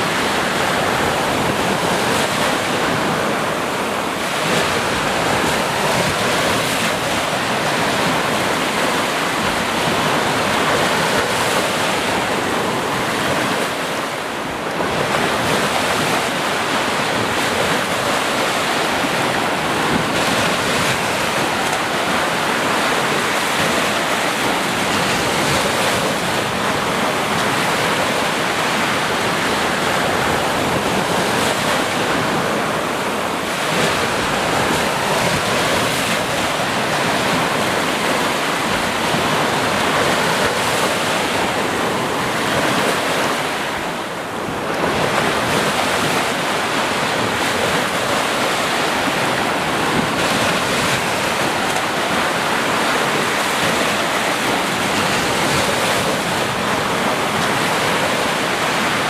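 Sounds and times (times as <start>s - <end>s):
sea surf washing ashore: 0.0s - 59.0s.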